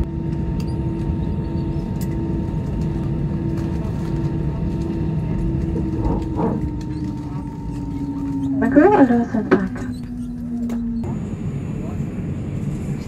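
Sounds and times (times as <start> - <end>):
aircraft engines rumbling: 0.0 - 13.0
constant hum: 0.0 - 13.0.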